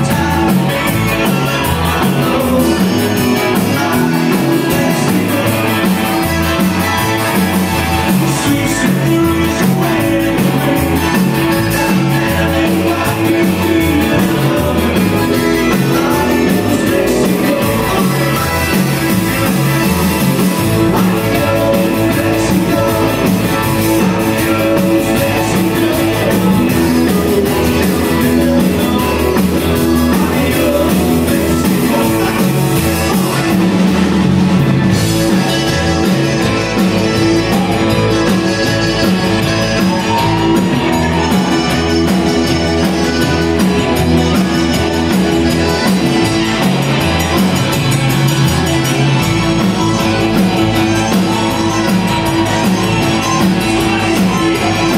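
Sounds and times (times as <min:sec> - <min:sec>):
accordion: 0:00.0 - 0:54.9
live band playing: 0:00.0 - 0:54.9
man singing: 0:00.0 - 0:54.9.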